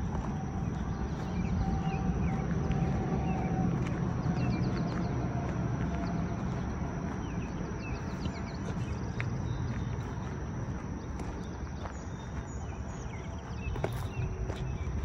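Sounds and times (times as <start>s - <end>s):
footsteps outdoors: 0.0s - 15.0s
steady low rumble: 0.0s - 15.0s.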